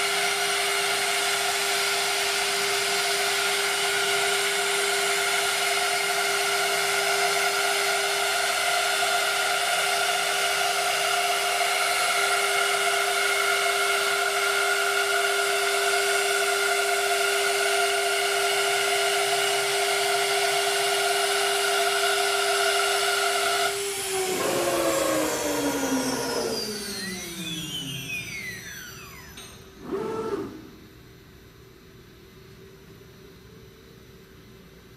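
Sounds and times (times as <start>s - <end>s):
cnc router whine: 0.0s - 30.9s.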